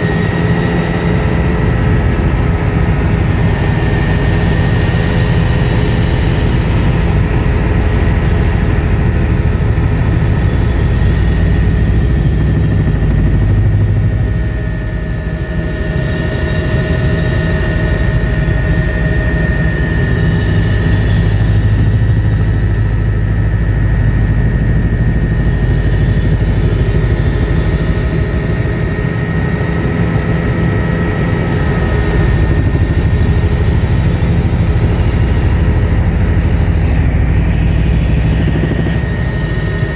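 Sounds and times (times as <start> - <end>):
helicopter engine and rotor drone: 0.0 - 39.9
high steady whine: 0.0 - 39.9.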